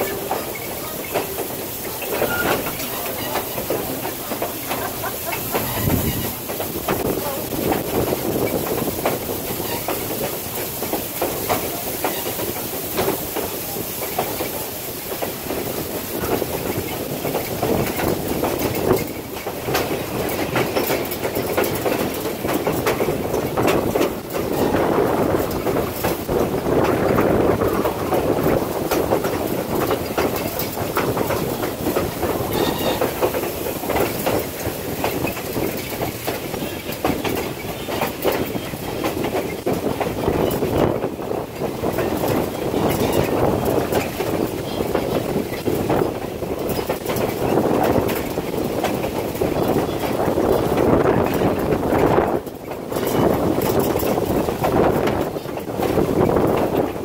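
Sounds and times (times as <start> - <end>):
steady train rumble: 0.0 - 57.0
train wheels clicking over rail joints: 0.0 - 57.0.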